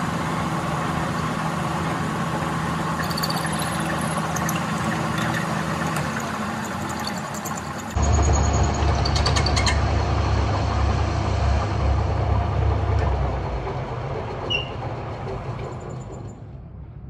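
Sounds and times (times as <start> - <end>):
heavy machinery rumbling: 0.0 - 17.0.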